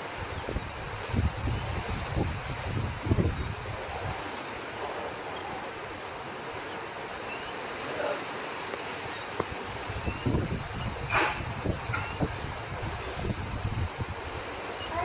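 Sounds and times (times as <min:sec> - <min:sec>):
wind buffeting microphone: 0:00.0 - 0:07.2, 0:09.0 - 0:15.0
wind blowing through leaves: 0:00.0 - 0:15.0.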